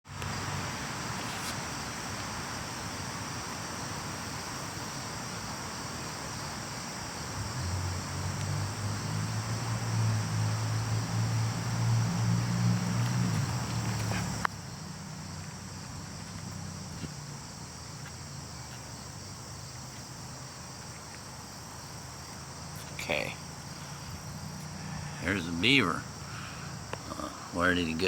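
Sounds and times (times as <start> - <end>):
insects trilling: 0.1 - 28.0.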